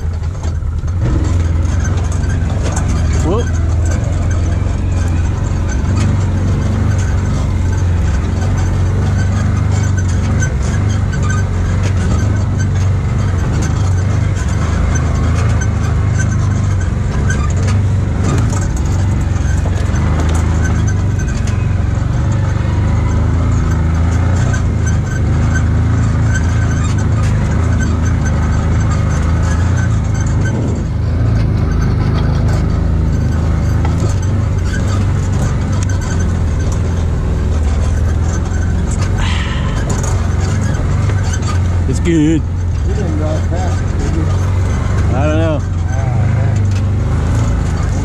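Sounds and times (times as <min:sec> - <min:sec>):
utility vehicle engine running: 0:00.0 - 0:48.0
vehicle knocks and rattles: 0:00.0 - 0:48.0.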